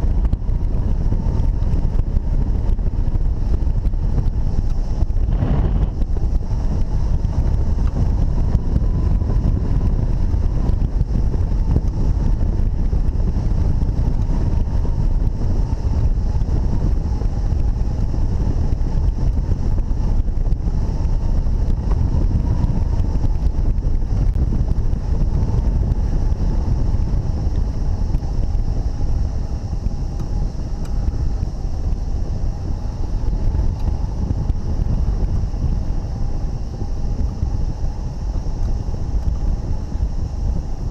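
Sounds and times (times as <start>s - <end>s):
wind roaring over microphone: 0.0s - 40.9s.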